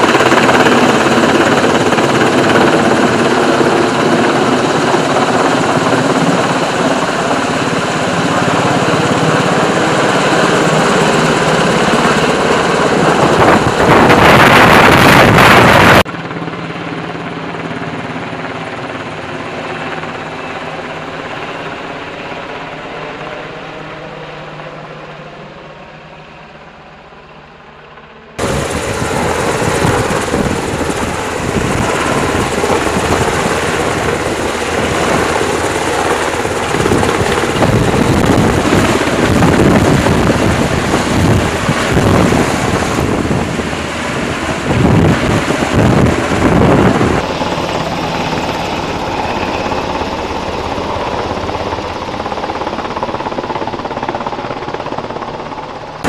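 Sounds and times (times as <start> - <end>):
helicopter rotor and engines: 0.0 - 56.0.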